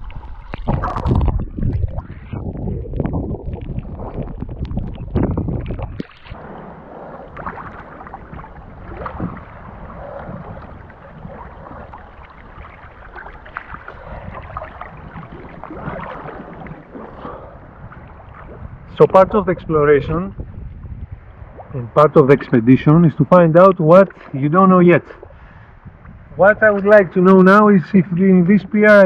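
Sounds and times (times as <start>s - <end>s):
loud rumbling water splashing: 0.0s - 29.0s
water lapping and gurgling: 0.0s - 29.0s.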